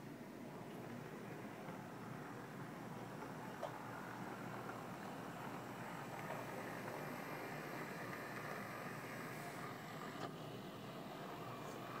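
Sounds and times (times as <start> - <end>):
model train motor whir: 0.8 - 12.0.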